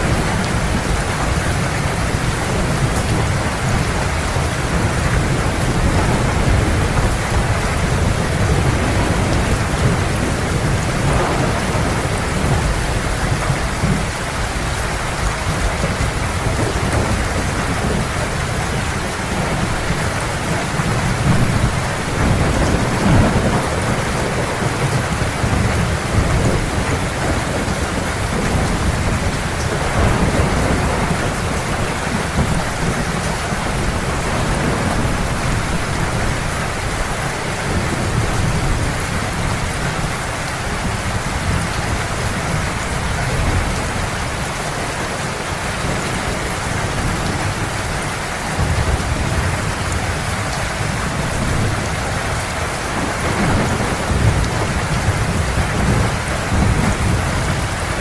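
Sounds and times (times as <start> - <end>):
heavy rain hissing: 0.0 - 58.0
low thunder rumbling: 0.0 - 58.0.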